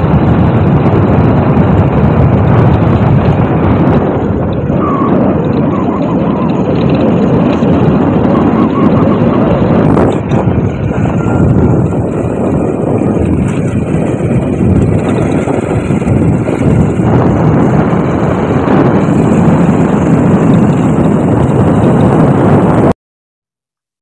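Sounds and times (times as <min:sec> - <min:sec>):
vehicle engine and road rumble: 0:00.0 - 0:23.0
wind rush over microphone: 0:00.0 - 0:23.0.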